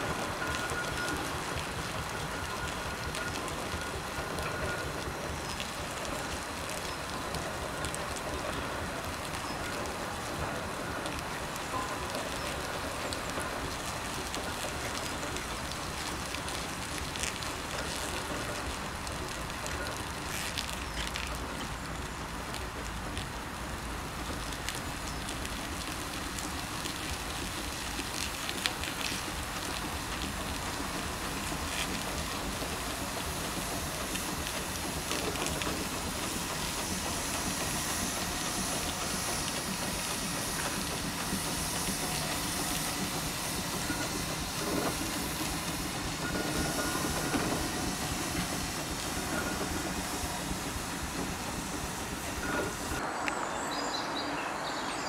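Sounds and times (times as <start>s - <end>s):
steam roller hissing: 0.0s - 53.1s.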